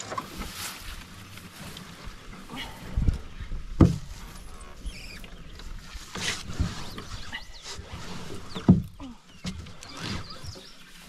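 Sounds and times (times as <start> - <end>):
knocks and thumps on canoe: 0.0 - 10.9.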